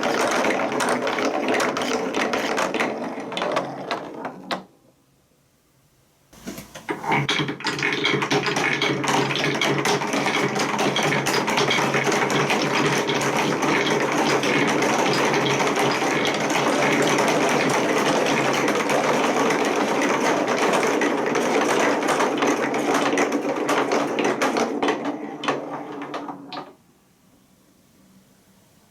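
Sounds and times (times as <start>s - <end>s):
marbles clattering down plastic track: 0.0s - 4.7s, 6.8s - 26.8s.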